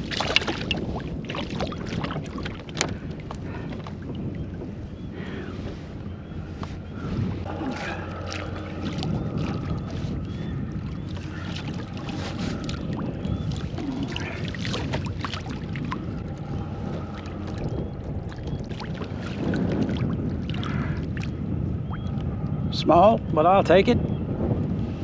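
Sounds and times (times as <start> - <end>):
water sloshing and splashing: 0.0 - 22.2.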